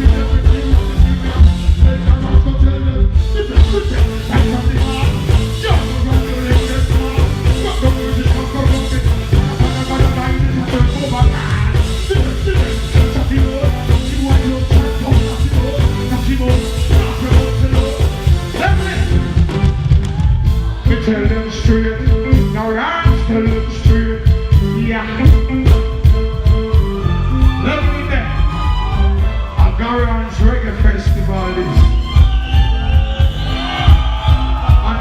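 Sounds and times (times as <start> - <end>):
person singing: 0.0 - 19.2, 20.6 - 35.0
heavy pulsing bass beat: 0.0 - 35.0
live reggae band music: 0.0 - 35.0.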